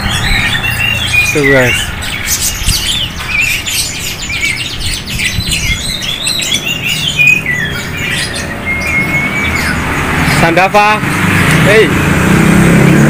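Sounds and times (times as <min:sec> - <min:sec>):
songbirds chirping and trilling: 0:00.0 - 0:13.0.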